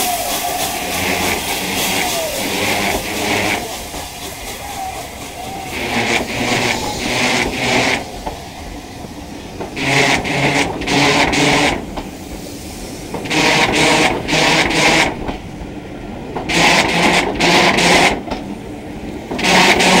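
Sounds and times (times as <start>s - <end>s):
train wheels clattering over rail joints: 0.0s - 15.6s, 16.3s - 18.6s, 19.2s - 20.0s.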